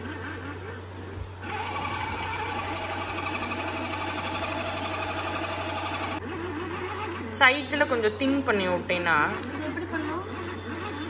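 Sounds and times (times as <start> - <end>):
toy pottery wheel motor whirring: 0.0 - 11.0.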